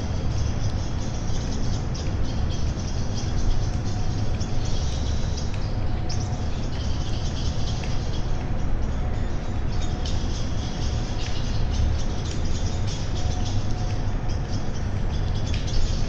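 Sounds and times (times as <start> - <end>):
small birds chirping: 0.1 - 16.0.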